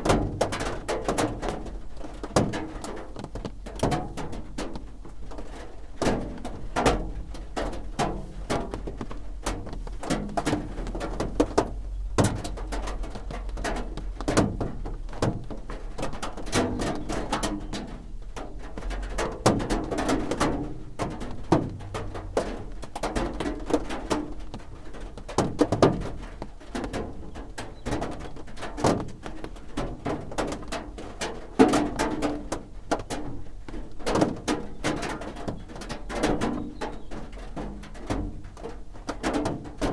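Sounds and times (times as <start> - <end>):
heavy single raindrops: 0.0 - 39.9
rain drumming on a roof: 0.0 - 39.9.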